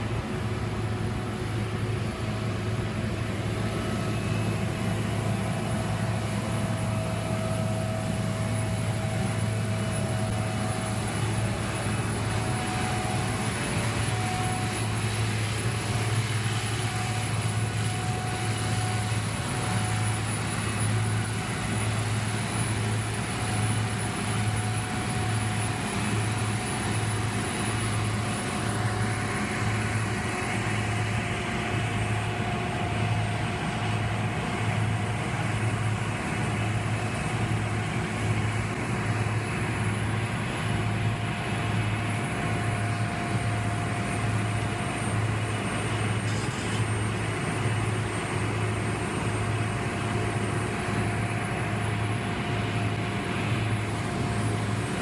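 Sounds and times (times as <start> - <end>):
faint steady whine: 0.0 - 55.0
heavy equipment engine droning: 0.0 - 55.0.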